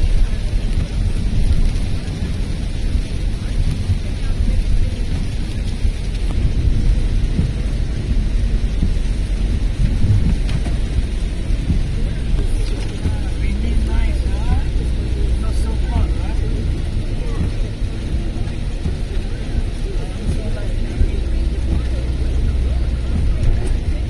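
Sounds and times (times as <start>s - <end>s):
rain hiss: 0.0s - 24.0s
wet road rumble in car: 0.0s - 24.0s.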